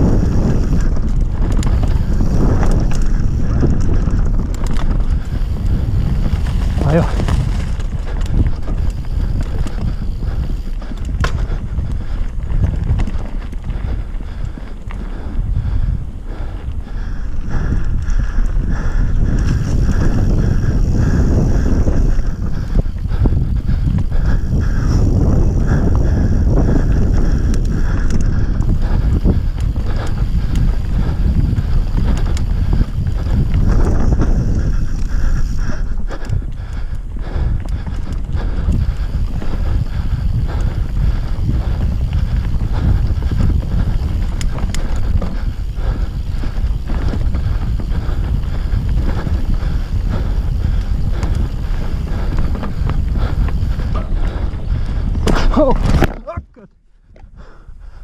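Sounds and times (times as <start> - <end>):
bike rattling clicks: 0.0 - 58.0
tyres rumbling over dirt trail: 0.0 - 58.0
wind buffeting microphone: 0.0 - 58.0.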